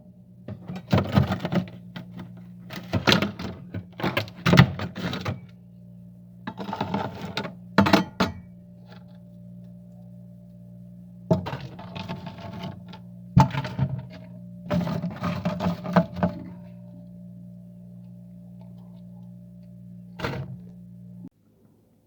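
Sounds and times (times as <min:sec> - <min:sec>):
low hum: 0:00.0 - 0:21.3.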